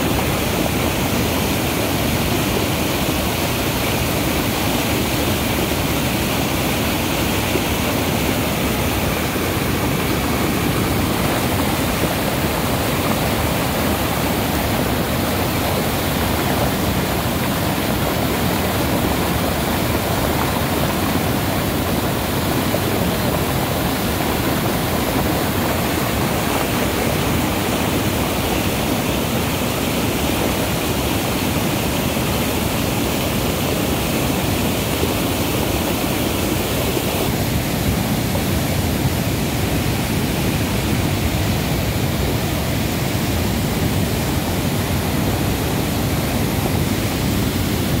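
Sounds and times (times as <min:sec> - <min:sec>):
river water pouring over a weir: 0:00.0 - 0:48.0.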